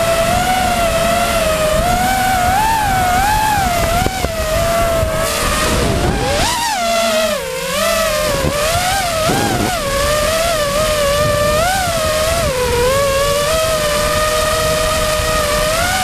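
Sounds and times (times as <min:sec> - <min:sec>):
drone motors whining: 0:00.0 - 0:16.0
steady rushing noise: 0:00.0 - 0:16.0.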